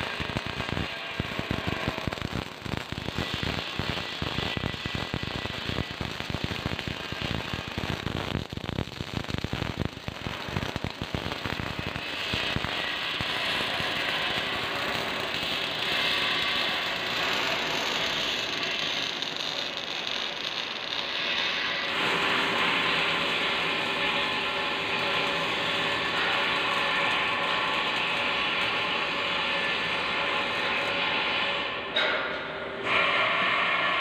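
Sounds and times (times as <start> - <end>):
welding arc crackling: 0.0 - 31.8.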